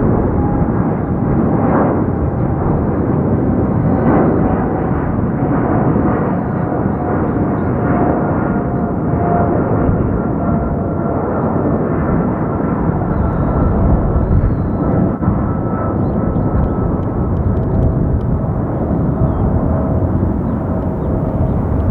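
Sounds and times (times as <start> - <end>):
faint engine whine: 0.0 - 21.9
jet engines rumbling: 0.0 - 21.9.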